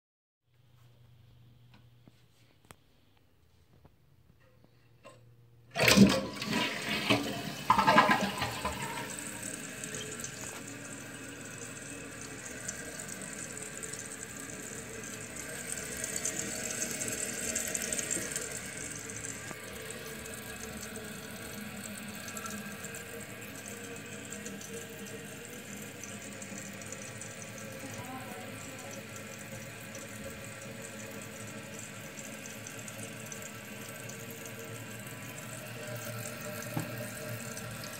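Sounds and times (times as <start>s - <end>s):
toilet flushing: 5.7s - 37.9s
toilet tank refilling hiss: 5.7s - 37.9s.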